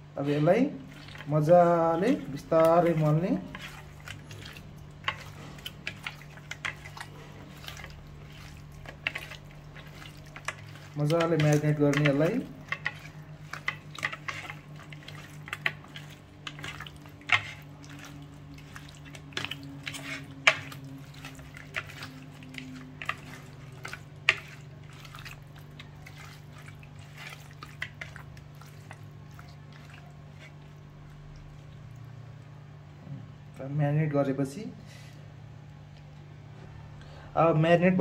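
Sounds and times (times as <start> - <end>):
hand kneading marinade into fish: 0.0 - 32.6.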